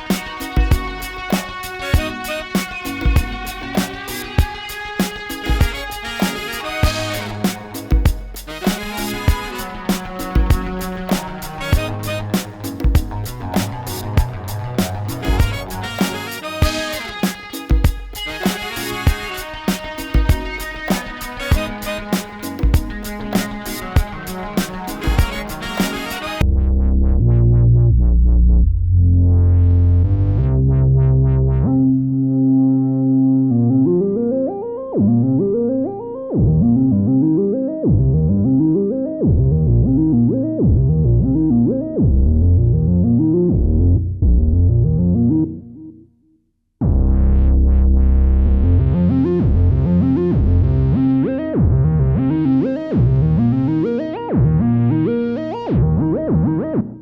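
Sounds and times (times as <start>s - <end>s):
electronic music with synth and bass: 0.0s - 46.0s, 46.8s - 57.0s.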